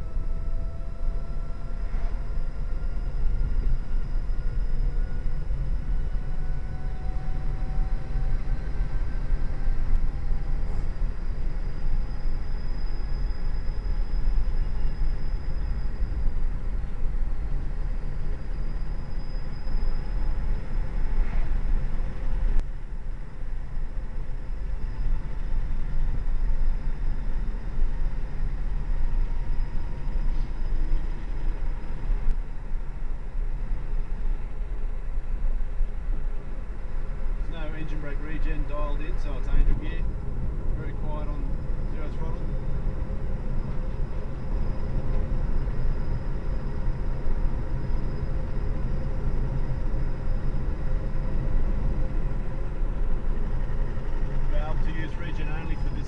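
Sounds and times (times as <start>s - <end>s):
road and tyre rumble: 0.0s - 56.0s.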